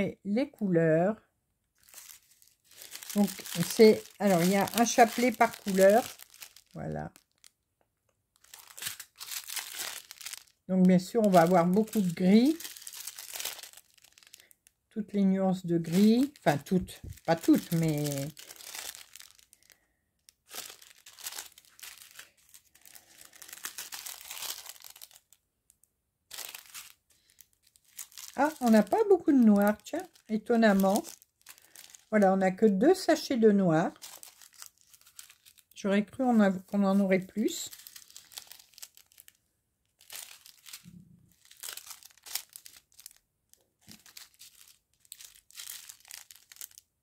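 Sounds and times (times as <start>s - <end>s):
plastic sachets crinkling: 1.8s - 7.6s, 8.3s - 47.0s.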